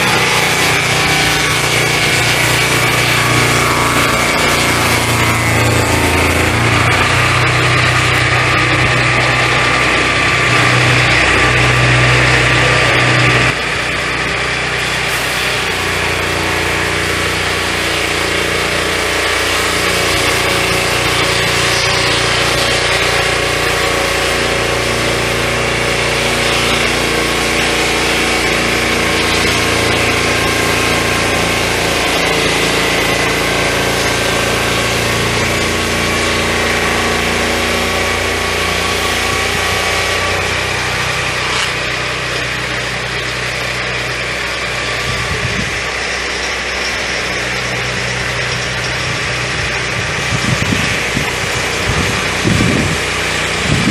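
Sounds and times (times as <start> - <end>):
circular blade sawing log: 0.0 - 53.9
sawmill engine under load: 0.0 - 53.9.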